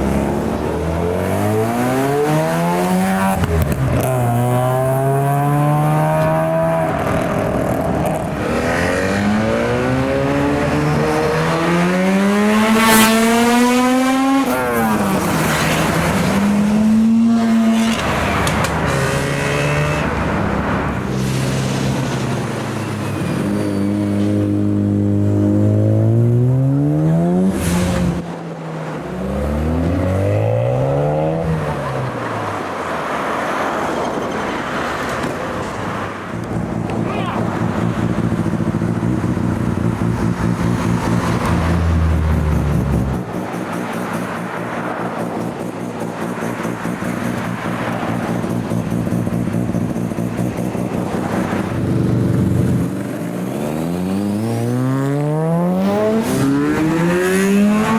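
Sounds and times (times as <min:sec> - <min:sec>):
rotary engine revving: 0:00.0 - 0:34.2, 0:36.0 - 0:45.6, 0:46.2 - 0:57.9.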